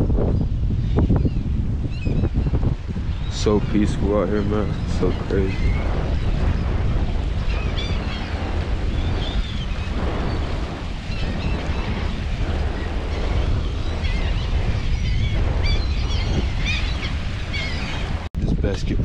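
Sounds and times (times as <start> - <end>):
wind buffeting microphone: 0.0 - 19.0
gulls calling: 0.8 - 18.3.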